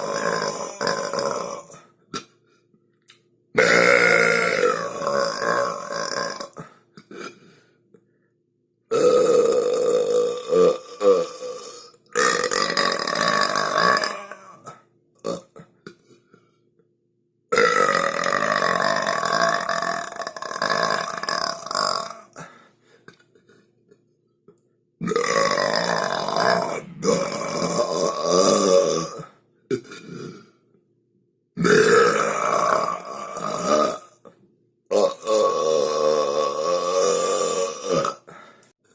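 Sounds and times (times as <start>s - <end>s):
long loud human burps: 0.0s - 2.3s, 3.6s - 7.5s, 8.9s - 16.2s, 17.5s - 23.7s, 25.0s - 30.6s, 31.6s - 34.3s, 34.9s - 38.6s.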